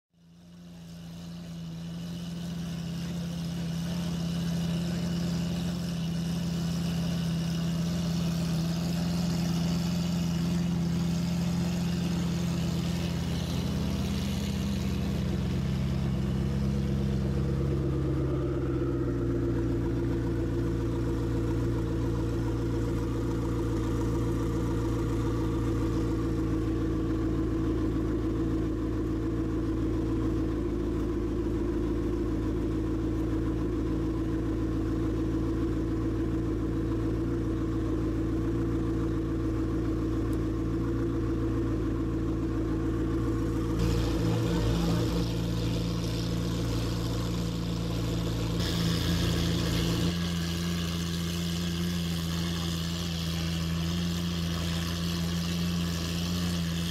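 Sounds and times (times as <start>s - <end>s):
car engine idling: 0.1s - 56.9s.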